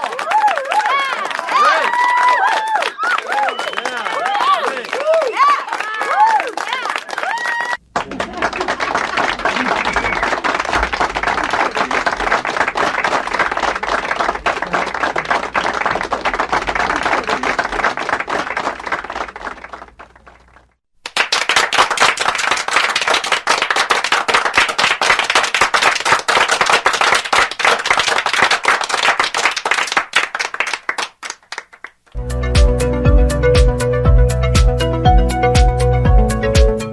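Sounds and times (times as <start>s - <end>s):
crowd applauding: 0.0s - 32.0s.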